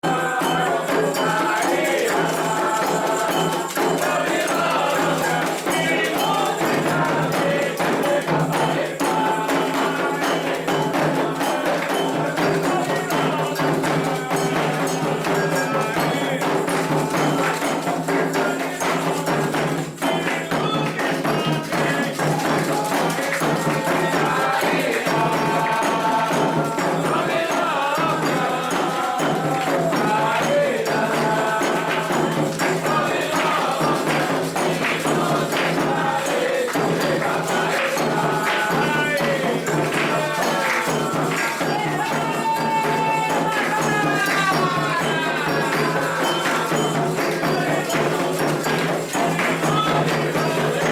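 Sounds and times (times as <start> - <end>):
group singing: 0.0 - 50.9
hand drums and percussion: 0.0 - 50.9.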